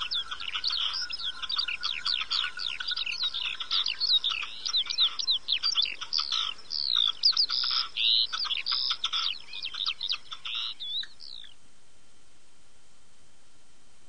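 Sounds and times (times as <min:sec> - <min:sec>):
many small birds chirping: 0:00.0 - 0:11.6.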